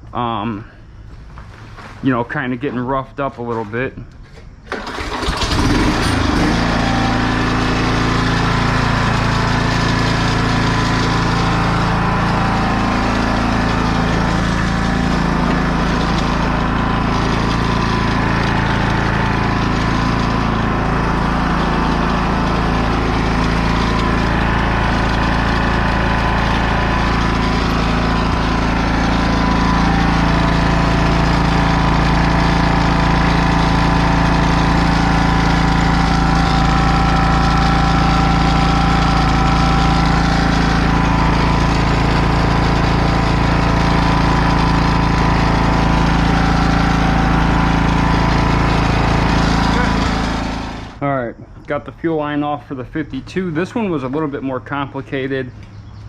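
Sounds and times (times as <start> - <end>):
mower engine running: 4.3 - 51.1, 51.9 - 56.0.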